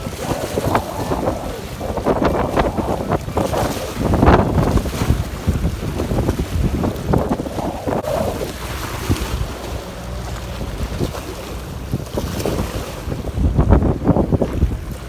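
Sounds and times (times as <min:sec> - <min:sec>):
waves splashing against rocks: 0:00.0 - 0:15.0
wind buffeting microphone: 0:00.0 - 0:15.0.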